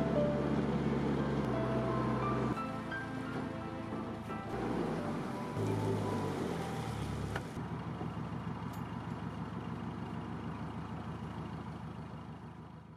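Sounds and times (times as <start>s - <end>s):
boat engine idling: 0.0s - 12.9s.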